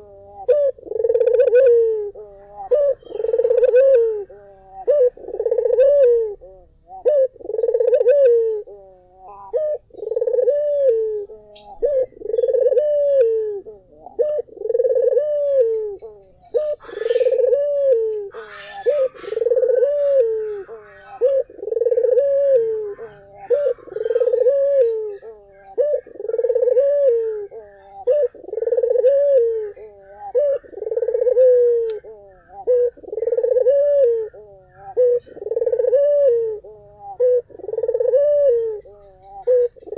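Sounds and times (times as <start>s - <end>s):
dove cooing: 0.0s - 39.9s
faint birds chirping: 0.0s - 39.9s.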